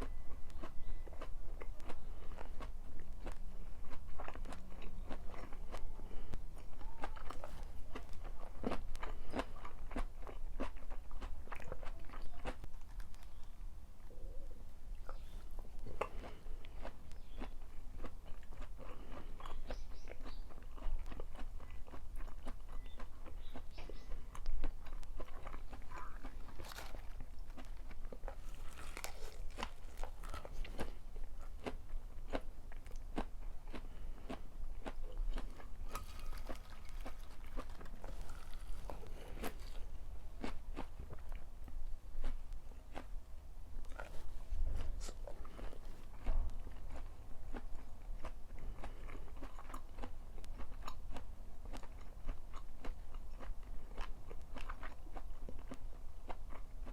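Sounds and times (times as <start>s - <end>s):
chewing food crunching: 0.0s - 14.2s, 14.9s - 43.2s, 43.8s - 56.9s.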